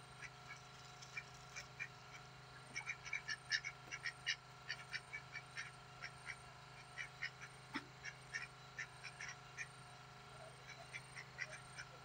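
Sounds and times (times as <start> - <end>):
ducks quacking: 0.2 - 9.8, 10.4 - 12.0.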